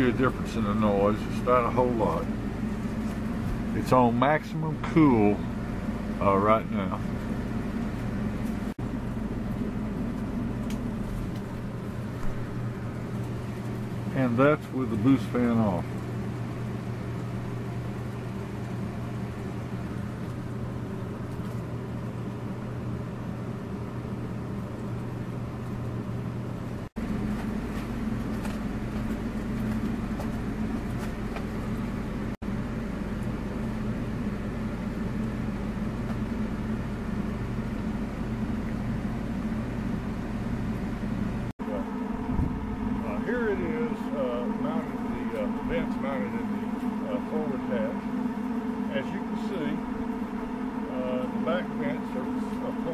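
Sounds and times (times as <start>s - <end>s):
air conditioner humming: 0.0s - 52.9s.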